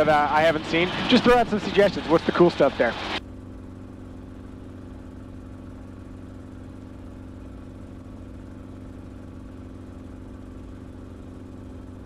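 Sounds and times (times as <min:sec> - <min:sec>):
helicopter engine and rotors drone: 0:00.0 - 0:12.0.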